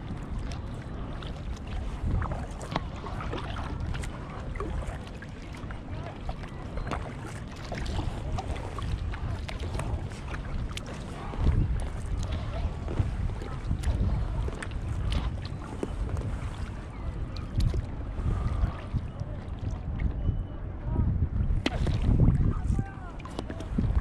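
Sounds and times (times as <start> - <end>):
paddle splashing in water: 0.0 - 20.2, 21.5 - 24.0
wind rumble on microphone: 0.0 - 24.0.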